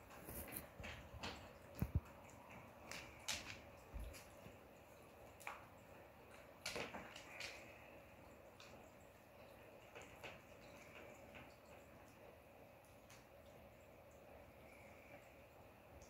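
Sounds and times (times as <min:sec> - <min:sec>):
cats chewing treats: 0:00.0 - 0:13.4.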